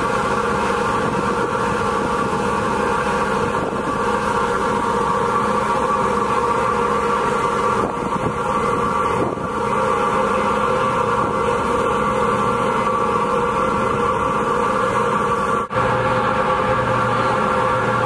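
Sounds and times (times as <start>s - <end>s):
ferry engine drone: 0.0s - 18.0s.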